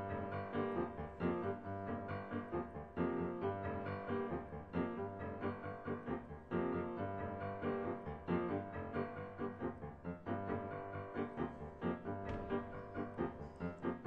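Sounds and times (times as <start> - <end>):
fast piano run: 0.0 - 14.0.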